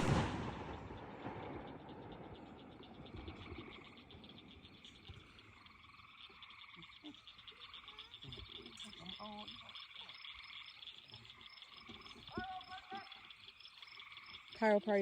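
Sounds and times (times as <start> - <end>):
frogs trilling: 0.0 - 15.0.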